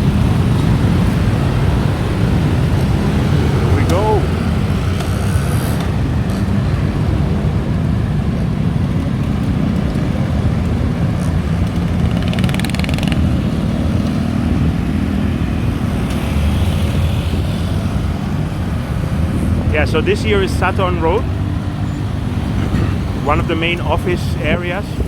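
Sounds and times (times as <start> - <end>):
rumble of passing traffic: 0.0 - 25.0.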